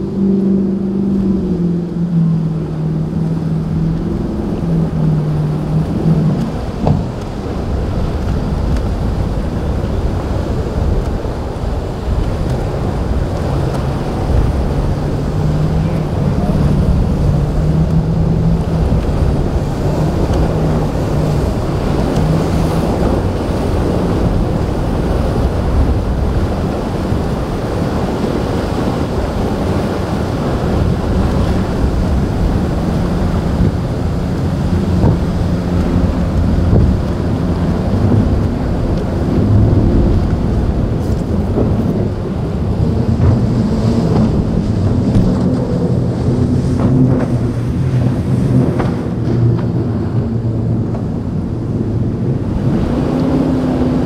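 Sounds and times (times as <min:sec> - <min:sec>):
boat engine drone: 0:00.0 - 0:54.0
breaking surf: 0:00.0 - 0:54.0
wind buffeting microphone: 0:00.0 - 0:54.0.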